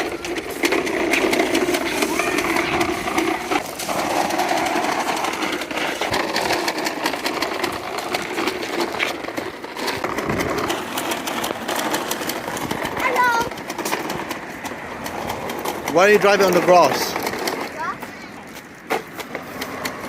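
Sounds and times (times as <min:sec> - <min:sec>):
toy lawn mower clicking: 0:00.0 - 0:20.0.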